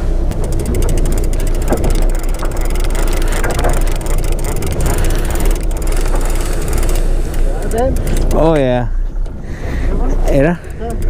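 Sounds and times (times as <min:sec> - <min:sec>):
boat engine rumbling: 0:00.0 - 0:11.0
fishing reel ticking: 0:00.3 - 0:08.9, 0:10.2 - 0:11.0.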